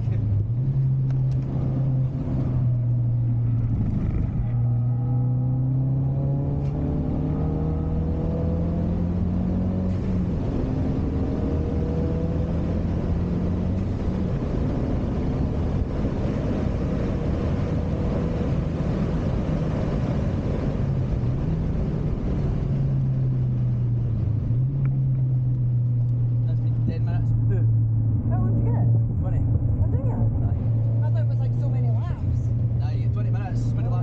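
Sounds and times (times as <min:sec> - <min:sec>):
car engine accelerating: 0:00.0 - 0:34.0
road and tyre noise: 0:00.0 - 0:34.0.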